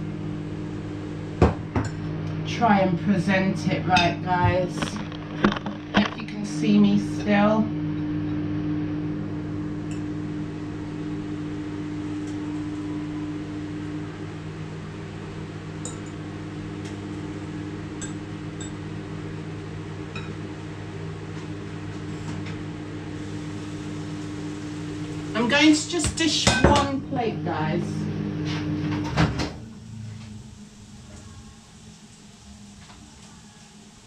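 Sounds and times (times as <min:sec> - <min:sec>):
kitchen appliance humming: 0:00.0 - 0:34.0.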